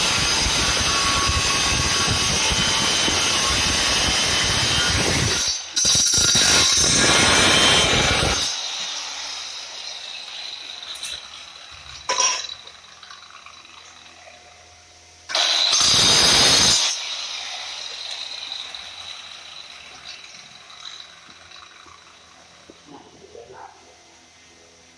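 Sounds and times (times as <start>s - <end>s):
tile cutter spinning down: 0.0s - 14.6s, 15.3s - 22.8s
electric tile cutter cutting: 0.0s - 14.7s, 15.3s - 22.8s.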